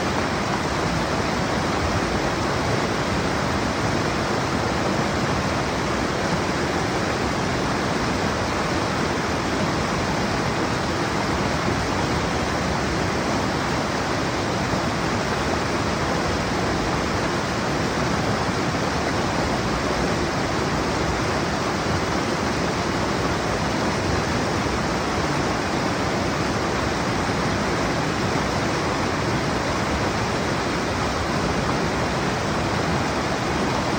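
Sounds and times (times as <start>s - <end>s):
flooded stream rushing: 0.0s - 33.9s.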